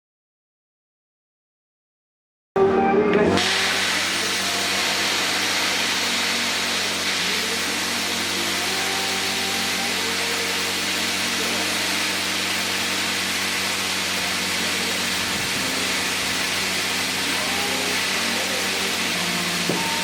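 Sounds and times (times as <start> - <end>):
air compressor hum: 3.2 - 20.0
plasma cutter hissing: 3.4 - 20.0.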